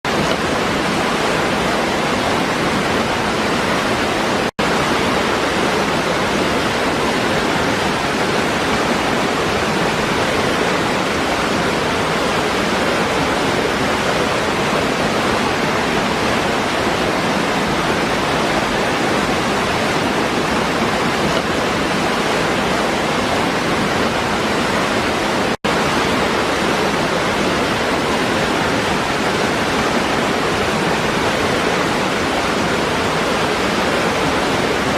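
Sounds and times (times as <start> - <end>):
waterfall pouring over rocks: 0.1 - 34.9.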